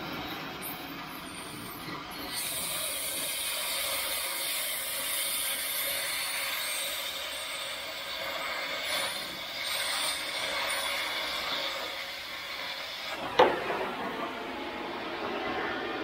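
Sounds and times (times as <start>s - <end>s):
cutting torch hissing: 0.1s - 16.0s.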